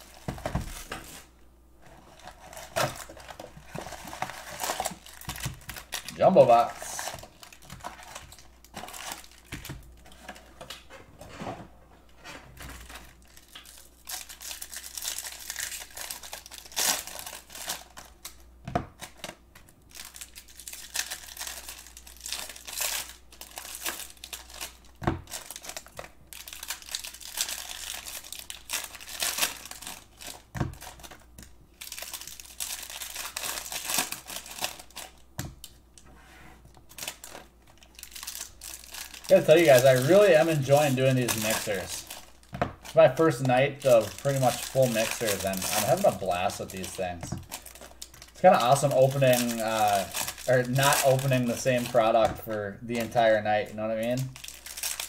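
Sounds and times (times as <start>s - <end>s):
foil wrappers tearing and crinkling: 2.0s - 10.5s, 12.7s - 18.4s, 19.0s - 35.8s, 36.9s - 55.0s.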